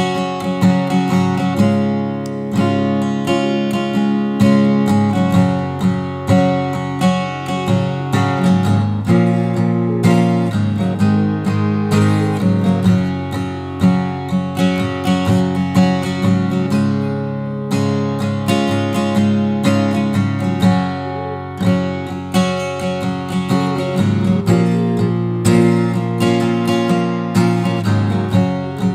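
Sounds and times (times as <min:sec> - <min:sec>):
acoustic guitar strumming chords: 0:00.0 - 0:28.9.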